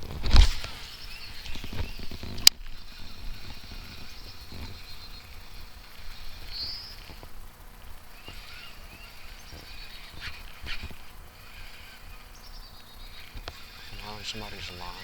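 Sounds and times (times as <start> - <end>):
wind rumble on microphone: 0.0 - 12.2
high-pitched hiss: 0.0 - 15.0
high chirps: 0.7 - 15.0.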